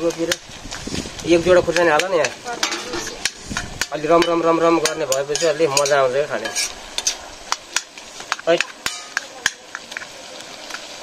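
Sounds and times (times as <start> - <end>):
food sizzling: 0.0 - 11.0
ladle scraping a wok: 0.0 - 11.0.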